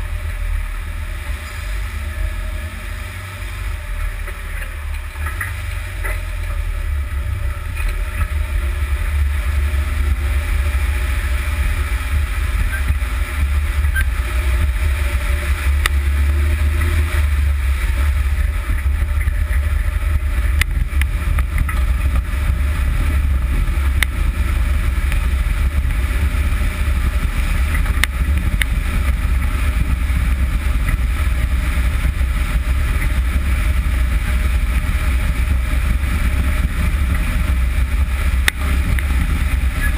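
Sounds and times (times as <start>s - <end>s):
wind and road noise rumble: 0.0s - 39.9s.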